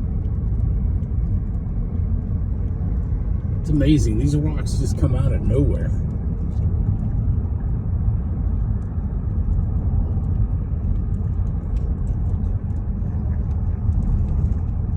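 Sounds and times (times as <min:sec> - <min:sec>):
car road and engine rumble: 0:00.0 - 0:14.9.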